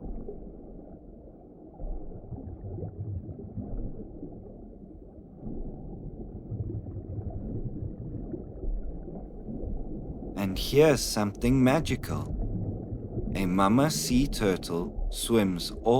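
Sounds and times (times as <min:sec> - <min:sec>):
muffled underwater water rumble: 0:00.0 - 0:15.9.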